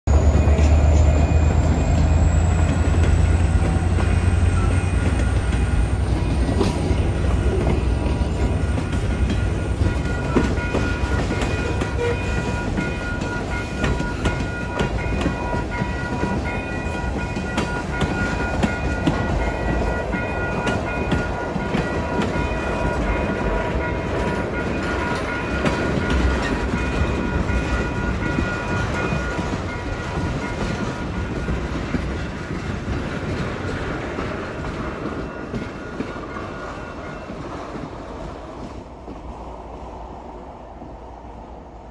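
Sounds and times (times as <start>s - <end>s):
crossing bell high ringing: 0.1s - 37.8s
freight train wheels clattering: 0.1s - 39.4s.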